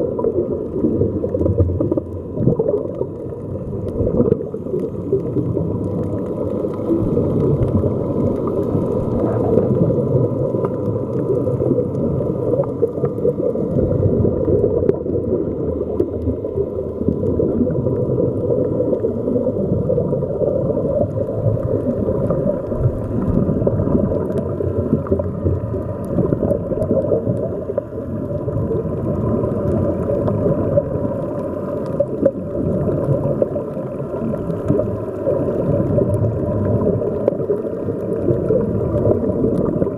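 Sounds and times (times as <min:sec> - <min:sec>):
rising air bubbles: 0:00.0 - 0:39.9
underwater rumble and gurgle: 0:00.0 - 0:39.9.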